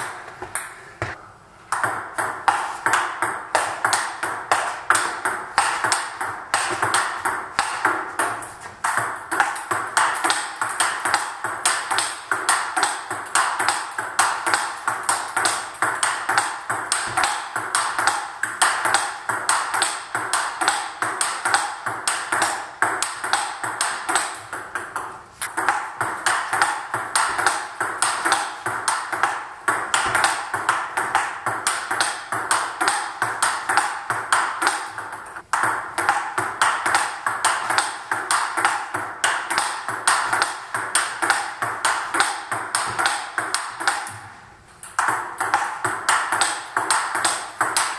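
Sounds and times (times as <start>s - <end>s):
table tennis ball clicking: 1.7s - 47.9s.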